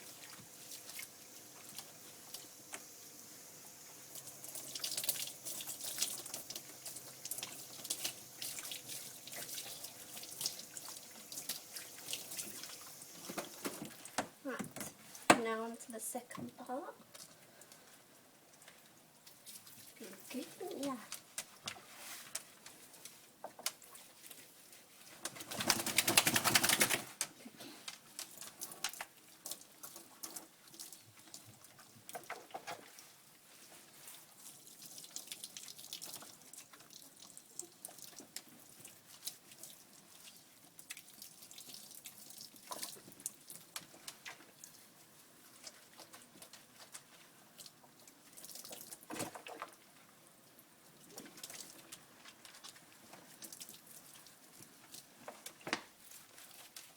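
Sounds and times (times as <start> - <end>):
faint splashing water: 0.0 - 56.9.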